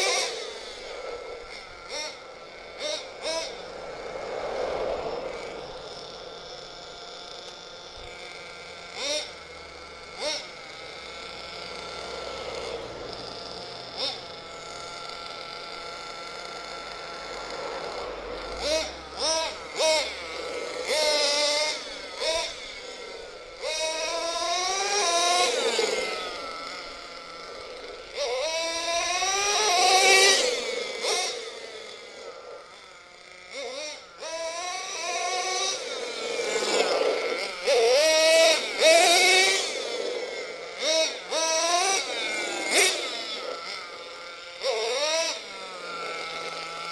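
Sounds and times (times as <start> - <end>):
small nitro engine revving: 0.0 - 46.9.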